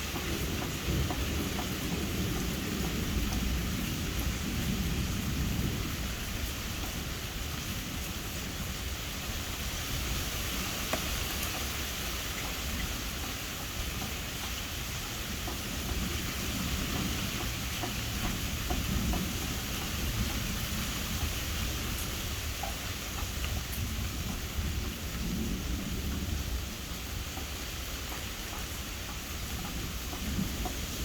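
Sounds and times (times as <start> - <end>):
distant thunder rumbling: 0.0 - 10.1, 12.4 - 31.0
steady rain falling: 0.0 - 31.0.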